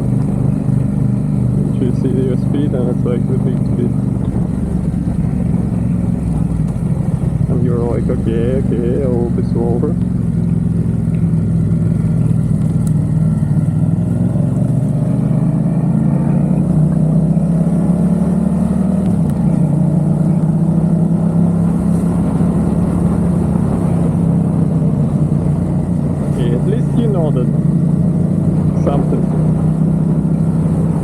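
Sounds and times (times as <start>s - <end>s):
motorcycle engine while riding: 0.0s - 31.0s.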